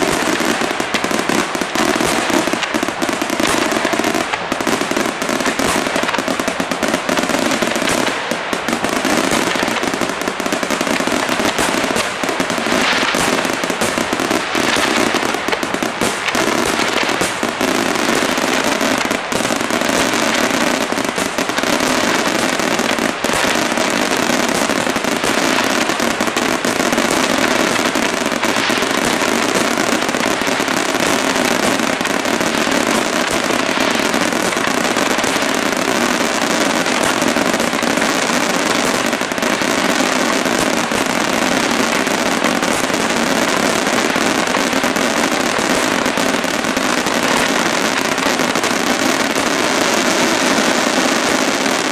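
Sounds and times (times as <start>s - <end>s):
firework shells bursting: 0.0s - 49.7s
firework crackling: 0.0s - 51.9s.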